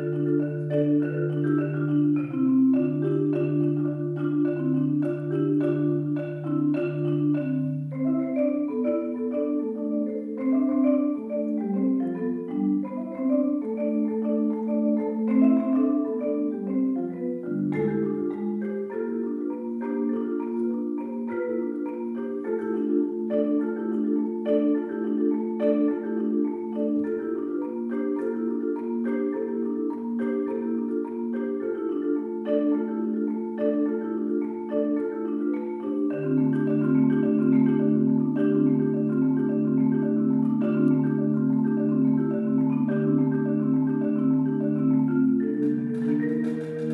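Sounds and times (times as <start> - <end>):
marimba rapid repeated notes: 0.0 - 46.9.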